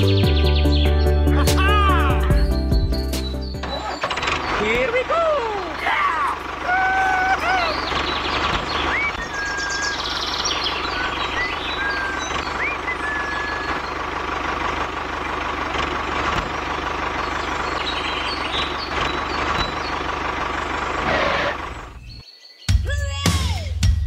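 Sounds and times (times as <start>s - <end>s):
engine running steadily: 0.0s - 22.2s
birds chirping: 0.0s - 24.0s.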